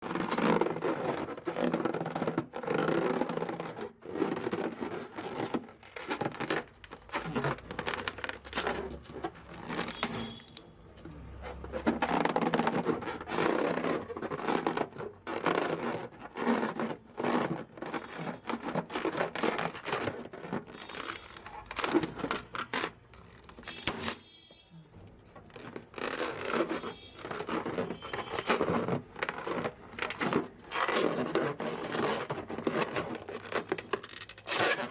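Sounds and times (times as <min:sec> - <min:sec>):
rubber balloons rubbing and crackling: 0:00.0 - 0:34.9.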